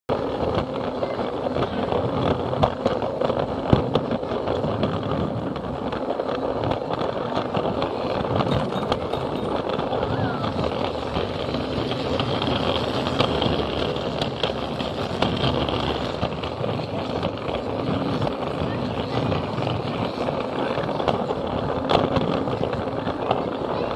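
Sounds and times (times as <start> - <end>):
wheels clicking over rail joints: 0.1 - 23.9.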